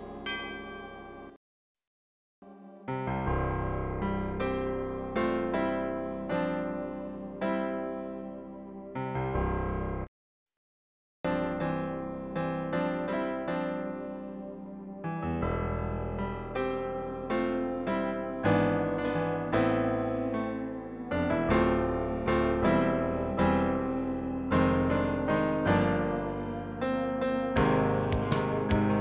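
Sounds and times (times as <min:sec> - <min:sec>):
electric piano tune: 0:02.9 - 0:10.1, 0:11.3 - 0:29.0.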